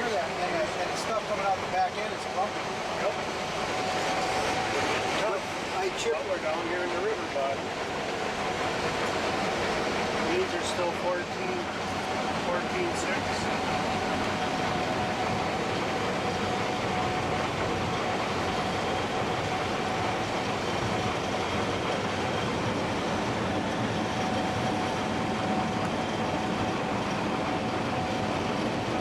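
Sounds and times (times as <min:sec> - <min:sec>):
combine harvester running: 0:00.0 - 0:29.0
thin steady whine: 0:00.0 - 0:29.0.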